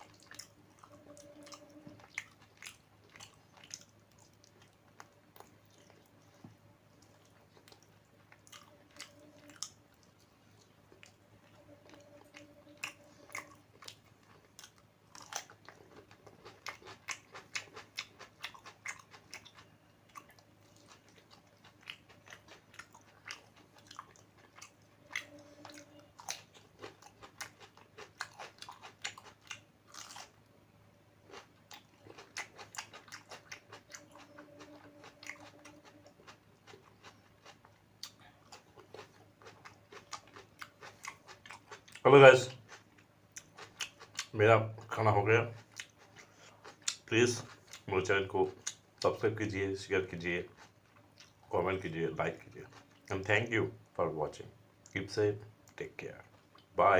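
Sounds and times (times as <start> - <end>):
person chewing food: 0.0 - 30.4, 31.2 - 49.1, 50.4 - 51.5.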